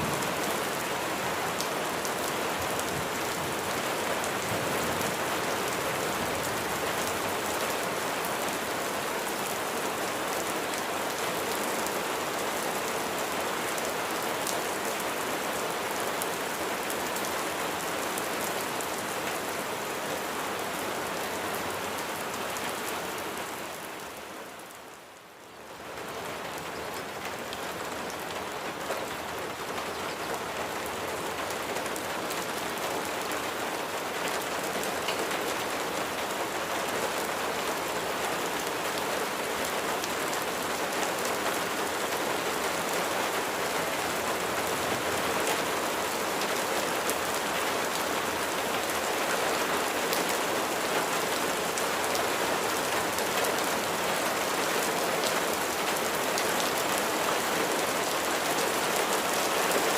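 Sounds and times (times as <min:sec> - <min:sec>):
rain drops pattering: 0:00.0 - 0:59.9.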